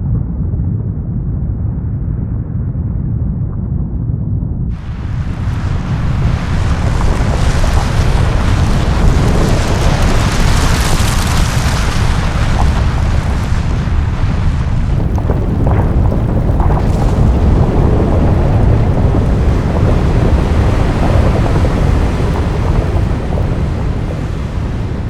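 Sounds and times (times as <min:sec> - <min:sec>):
pyroclastic flow rumbling roar: 0:04.7 - 0:25.0.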